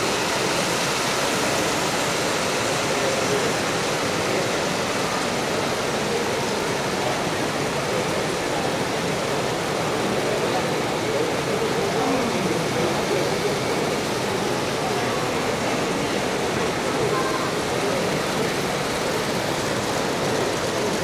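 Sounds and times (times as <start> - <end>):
crowd hubbub in a hall: 0.0 - 21.0.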